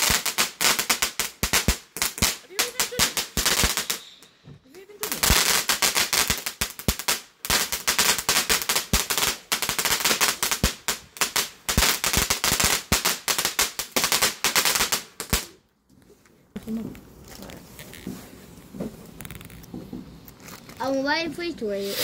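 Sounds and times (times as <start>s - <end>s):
fireworks crackling: 0.0s - 15.7s, 16.6s - 22.0s.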